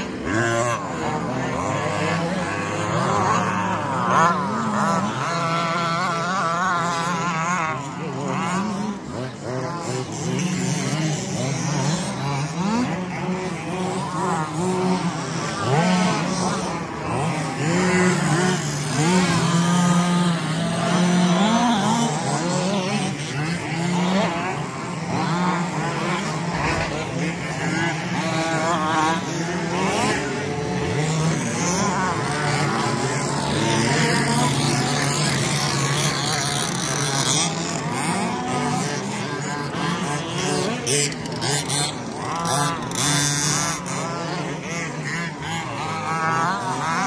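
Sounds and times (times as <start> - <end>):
small rc car engines revving: 0.0 - 47.0.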